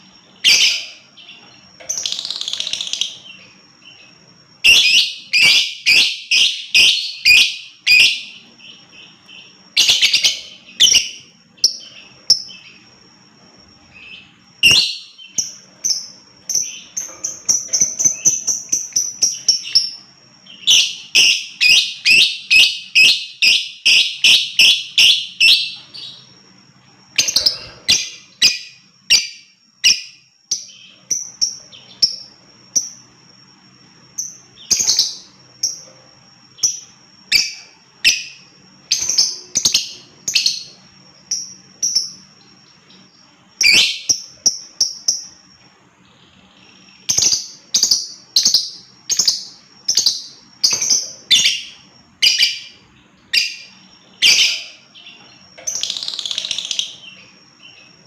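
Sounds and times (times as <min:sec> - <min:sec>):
lovebird chirping: 0:00.0 - 0:58.0.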